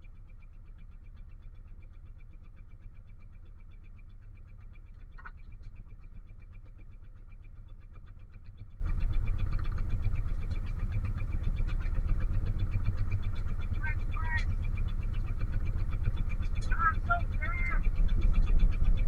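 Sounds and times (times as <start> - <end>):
boat engine rumbling and ticking: 0.0 - 19.0.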